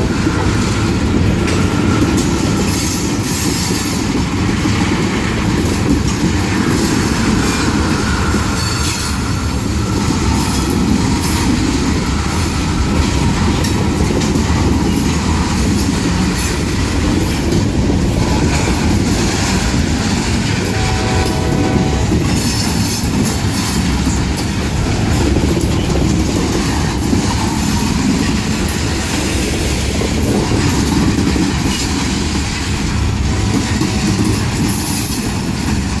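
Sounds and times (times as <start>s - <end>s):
train wheels running on rails: 0.0s - 36.0s.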